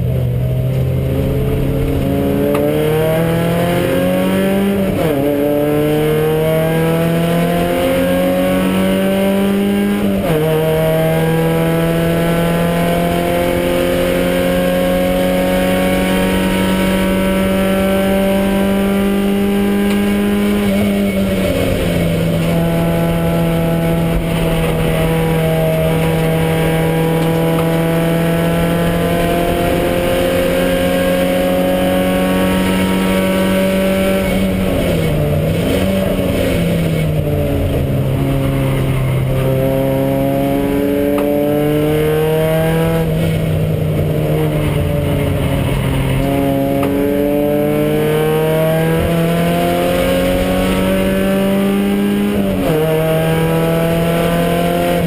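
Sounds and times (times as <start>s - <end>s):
race car engine revving: 0.0s - 55.0s
engine throttle blips: 9.7s - 55.0s.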